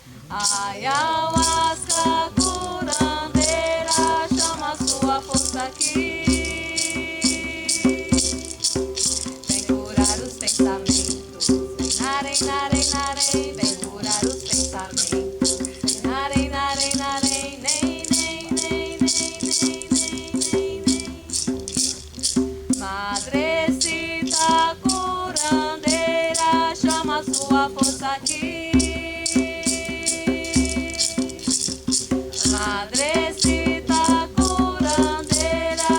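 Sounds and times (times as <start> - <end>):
person singing: 0.3 - 22.0, 22.8 - 35.9
hand rattle shaken in a steady beat: 0.3 - 35.9.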